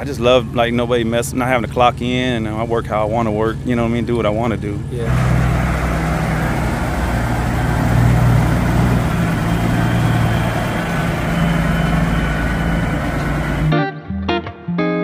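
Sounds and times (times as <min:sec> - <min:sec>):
diesel truck engine rumbling: 0:00.0 - 0:13.7.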